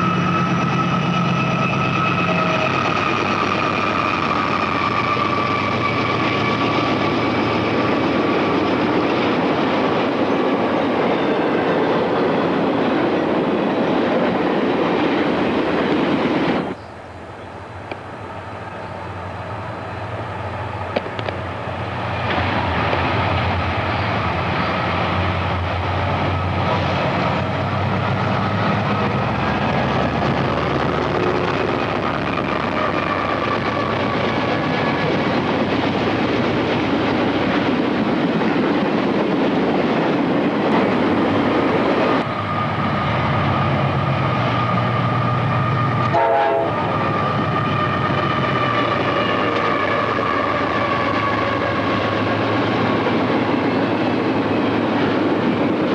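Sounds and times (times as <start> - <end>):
train rumbling on tracks: 0.0 - 55.9.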